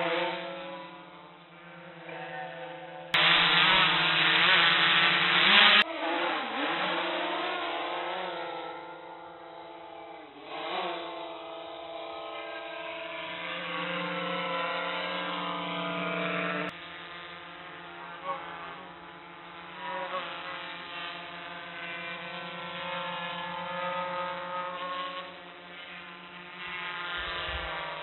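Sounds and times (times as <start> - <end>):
drone propellers whining: 0.0 - 28.0.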